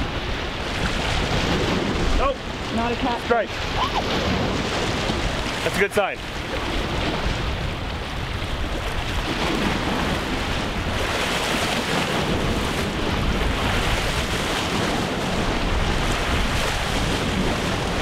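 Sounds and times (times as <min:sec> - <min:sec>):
waves washing on shore: 0:00.0 - 0:18.0
wind buffeting microphone: 0:00.0 - 0:18.0.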